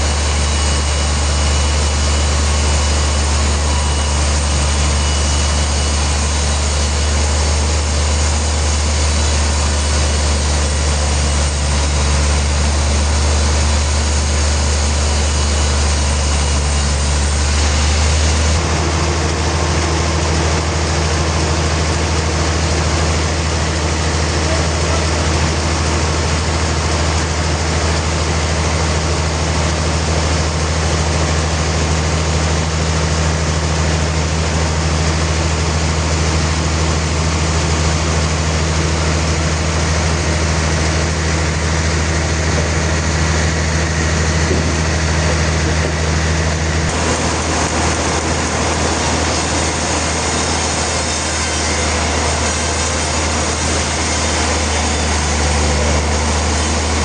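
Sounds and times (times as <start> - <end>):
harsh sawing noise: 0.0 - 57.0
motor hum: 0.0 - 57.0.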